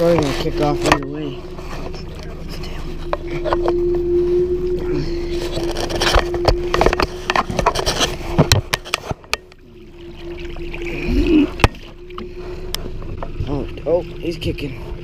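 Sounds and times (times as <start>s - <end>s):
steady low hum: 0.0s - 15.0s
water splashing against a boat: 0.0s - 15.0s.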